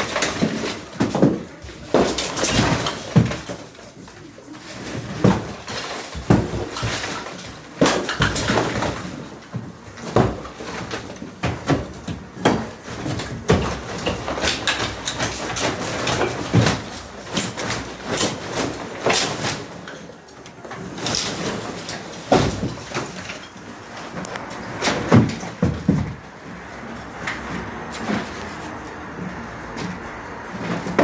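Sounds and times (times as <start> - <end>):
gypsum chunks crashing down: 0.0 - 28.5.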